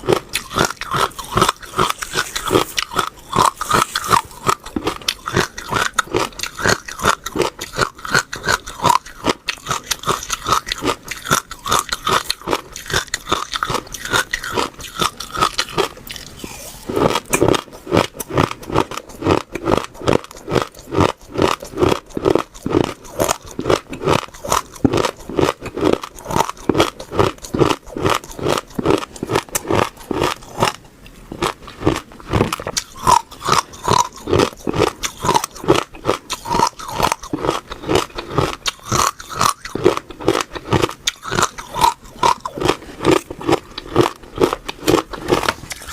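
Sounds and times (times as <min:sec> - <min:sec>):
chewing crunchy food: 0:00.0 - 0:45.9.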